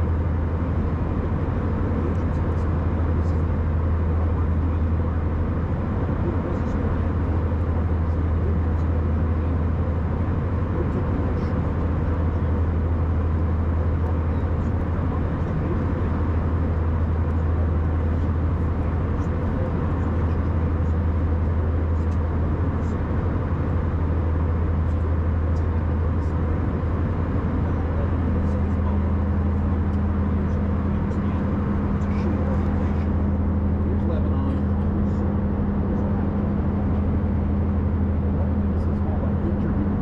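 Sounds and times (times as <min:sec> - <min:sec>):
airliner cabin drone: 0:00.0 - 0:40.0.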